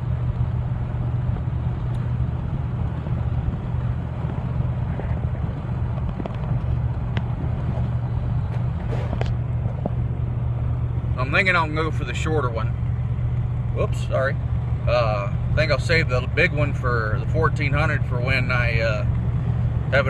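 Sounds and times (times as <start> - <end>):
car engine drone: 0.0 - 20.0
road noise: 0.0 - 20.0.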